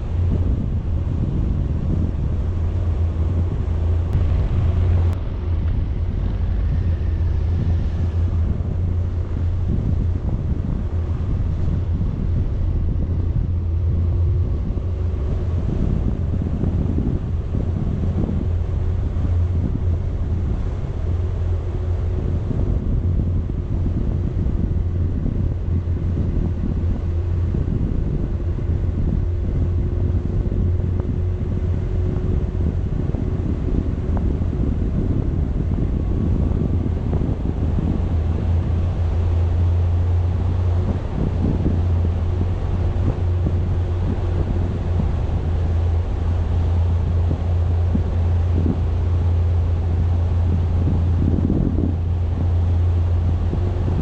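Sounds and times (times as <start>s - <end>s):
faint constant hum: 0.0s - 54.0s
wind buffeting microphone: 0.0s - 54.0s.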